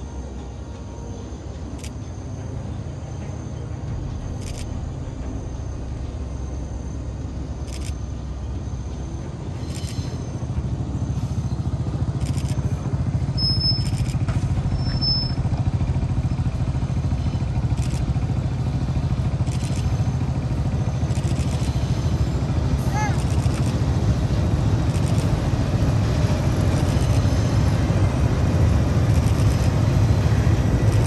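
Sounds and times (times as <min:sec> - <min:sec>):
diesel locomotive engine rumbling: 0:00.0 - 0:31.0.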